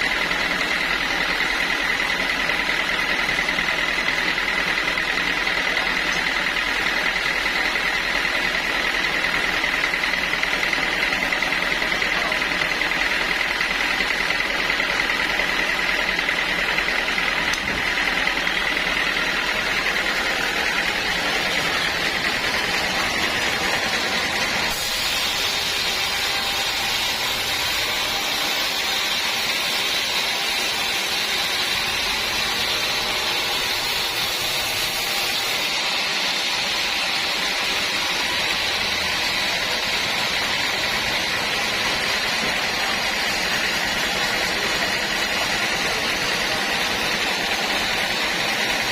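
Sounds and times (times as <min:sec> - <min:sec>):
sawmill saw whining: 0:00.0 - 0:48.9.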